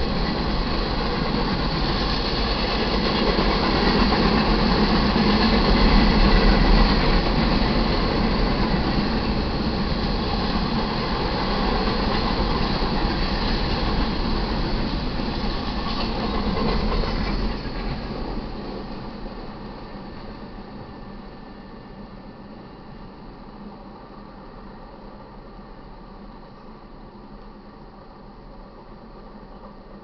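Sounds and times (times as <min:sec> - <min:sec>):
train wheels on track: 0:00.0 - 0:30.0.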